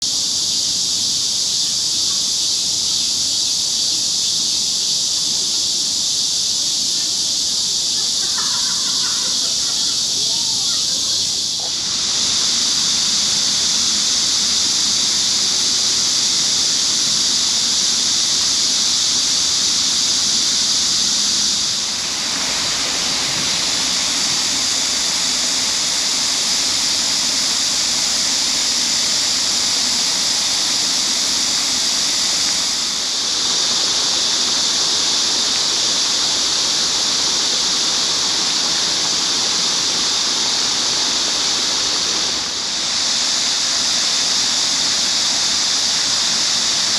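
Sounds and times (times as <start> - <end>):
cicadas buzzing: 0.0 - 46.9.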